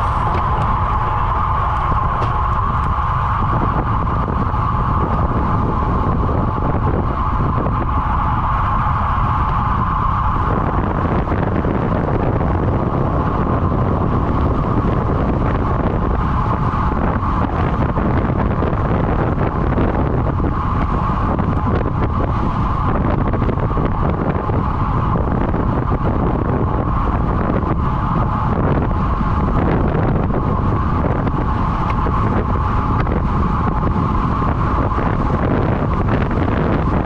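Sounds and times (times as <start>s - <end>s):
constant hum: 0.0s - 37.0s
wind buffeting microphone: 0.0s - 37.0s.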